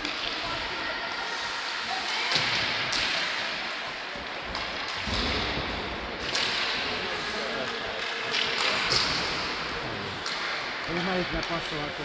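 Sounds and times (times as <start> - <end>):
sticks and puck clacking: 0.0 - 0.8, 1.6 - 12.0.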